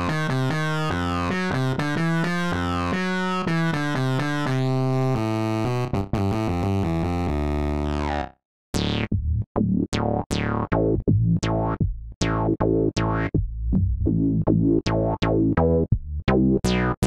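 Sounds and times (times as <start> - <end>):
synthesizer chords and notes: 0.0 - 17.0
synthesizer plucked notes: 0.0 - 17.0.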